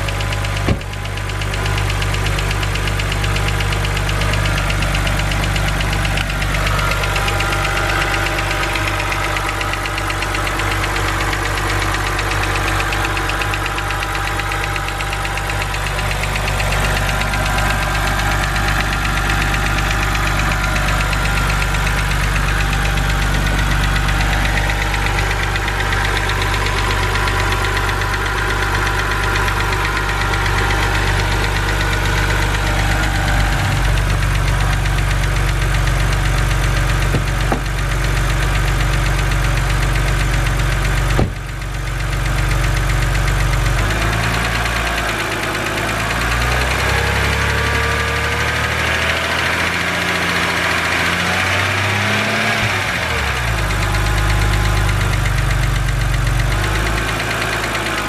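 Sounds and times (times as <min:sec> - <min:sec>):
car engine idling: 0:00.0 - 0:58.0
fast light engine ticking: 0:00.0 - 0:58.0.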